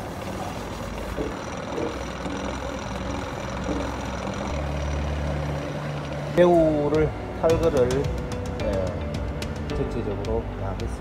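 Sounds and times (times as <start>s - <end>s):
low engine hum: 0.0s - 11.0s
rear differential rumbling: 0.0s - 11.0s.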